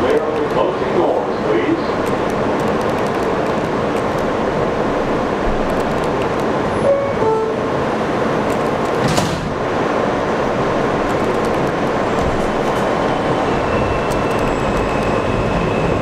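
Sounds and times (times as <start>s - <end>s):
subway train equipment running: 0.0s - 16.0s.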